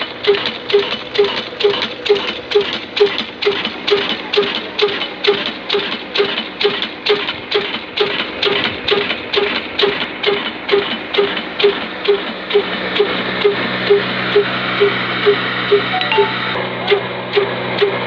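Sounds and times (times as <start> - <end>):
slow diesel engine knocking: 0.0 - 15.9.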